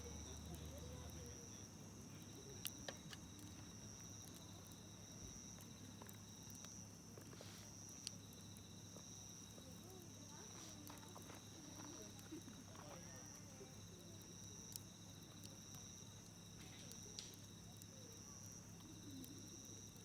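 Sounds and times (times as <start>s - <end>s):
campfire crackling pops: 0.0s - 20.0s
insects trilling: 0.0s - 20.0s.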